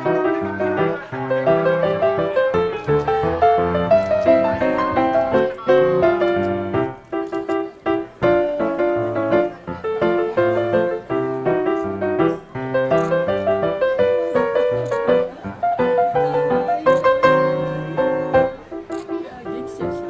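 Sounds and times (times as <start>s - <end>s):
lively piano music: 0.0s - 20.0s.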